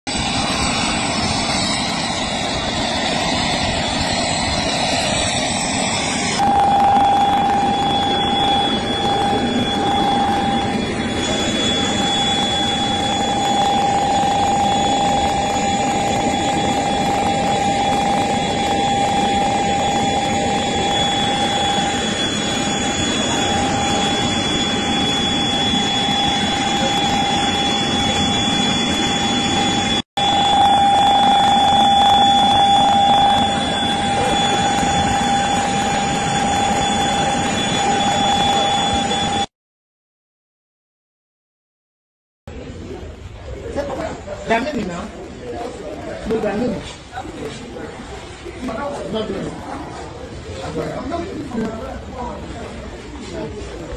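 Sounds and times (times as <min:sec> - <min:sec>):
jet turbine whine: 0:00.1 - 0:39.5, 0:42.5 - 0:53.9.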